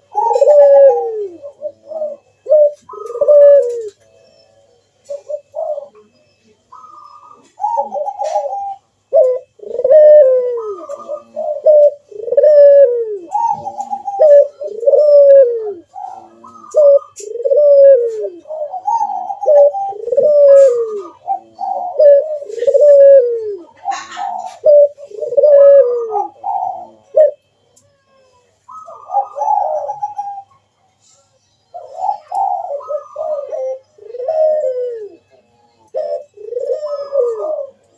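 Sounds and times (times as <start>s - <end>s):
doves cooing: 0.0s - 37.9s
higher-pitched coos: 0.0s - 37.9s.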